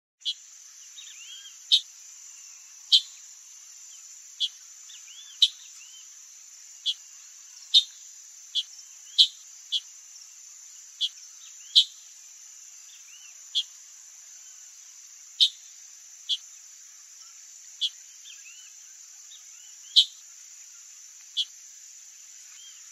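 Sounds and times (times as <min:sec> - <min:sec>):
insects droning: 0:00.2 - 0:22.9.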